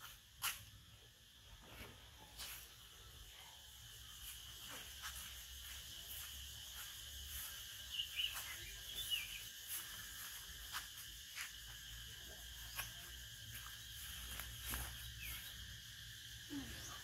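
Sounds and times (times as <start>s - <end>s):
faint insect chirring: 0.0s - 17.0s.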